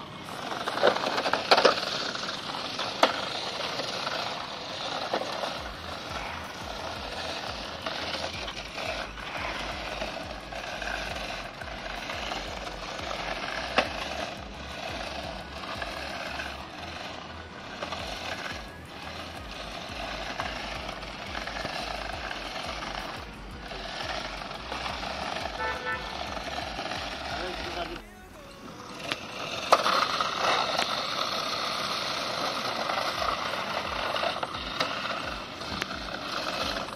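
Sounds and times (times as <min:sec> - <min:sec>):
toy car motors whirring: 0:00.0 - 0:36.9.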